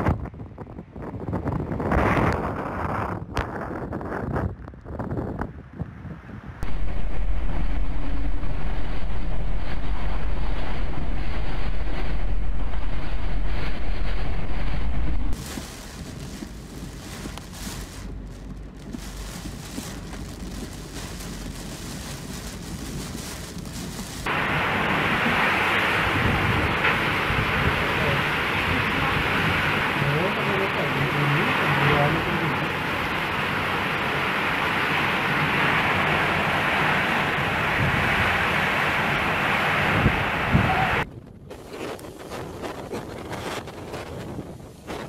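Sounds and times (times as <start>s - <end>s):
wind buffeting microphone: 0.0s - 45.0s
wind-driven rain hissing: 5.8s - 45.0s.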